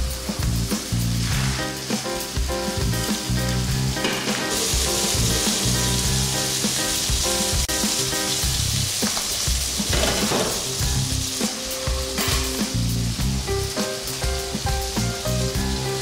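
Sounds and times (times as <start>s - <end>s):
background music: 0.0s - 16.0s
food sizzling in pans: 0.0s - 16.0s.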